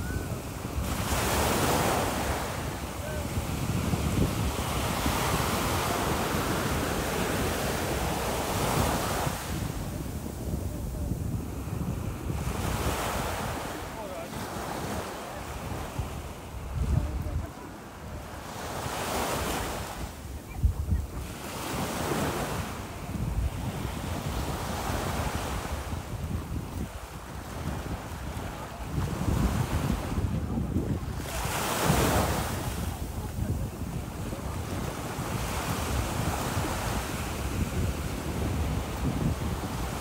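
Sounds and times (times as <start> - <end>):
sea surf washing in: 0.0 - 40.0
wind buffeting microphone: 0.0 - 40.0.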